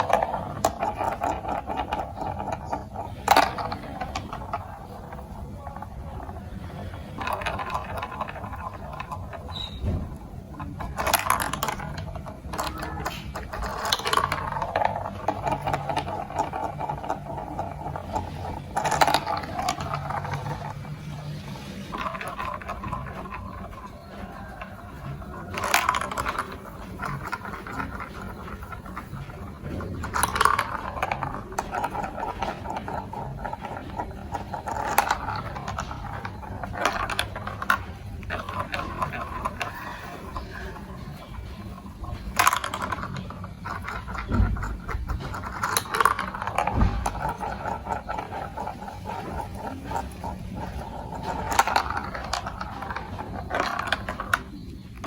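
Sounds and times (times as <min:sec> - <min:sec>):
marbles clicking and knocking: 0:00.0 - 0:55.0
marbles rolling on plastic track: 0:00.0 - 0:55.0.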